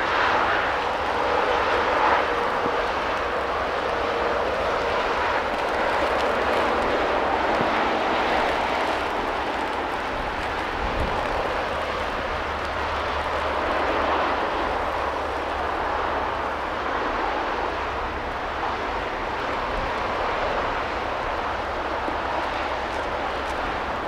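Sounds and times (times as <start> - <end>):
distant steam locomotive exhaust roar: 0.0 - 24.0
rain: 0.0 - 24.0
wind rumbling on microphone: 0.0 - 24.0.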